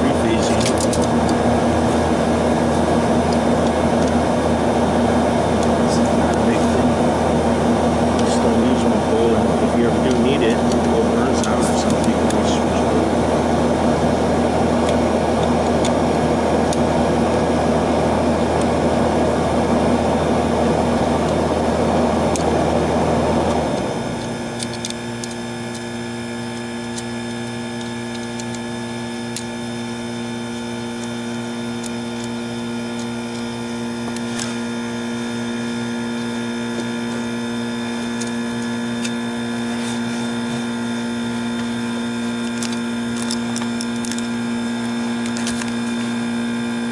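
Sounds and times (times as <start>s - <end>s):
air conditioning unit running: 0.0s - 46.9s.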